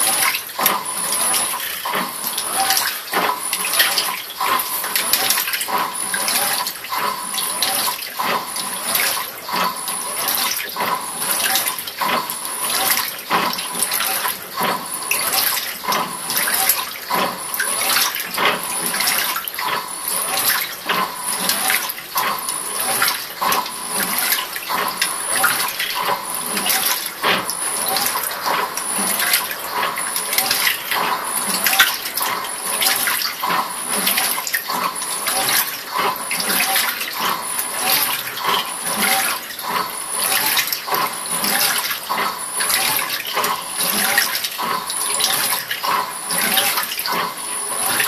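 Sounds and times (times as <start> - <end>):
water sloshing in washing machine: 0.0 - 48.0.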